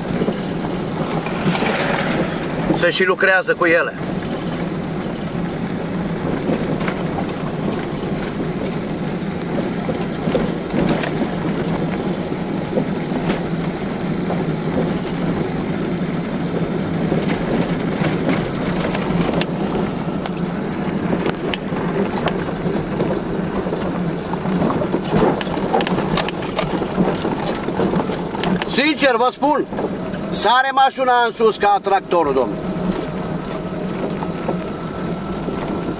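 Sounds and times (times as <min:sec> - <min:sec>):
car engine and tyre noise: 0:00.0 - 0:35.9
gravel clicking and knocking: 0:04.0 - 0:30.3, 0:32.6 - 0:35.9.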